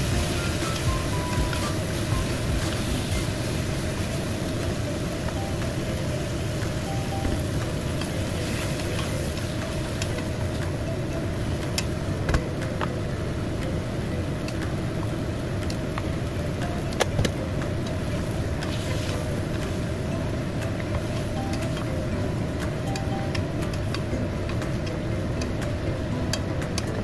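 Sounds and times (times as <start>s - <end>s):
vegetables sizzling in oil: 0.0s - 12.2s, 13.4s - 25.6s
steady low rumble: 0.0s - 27.0s.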